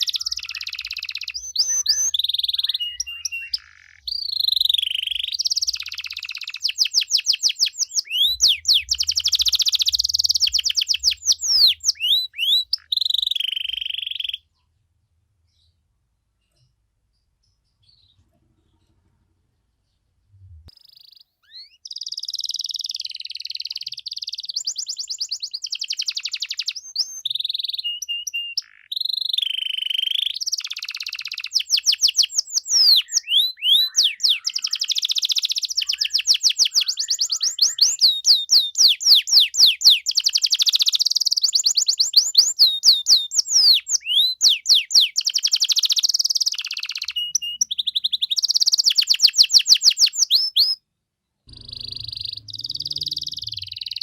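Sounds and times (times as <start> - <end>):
canary singing trills: 0.0 - 14.7, 20.5 - 50.8, 51.4 - 54.0.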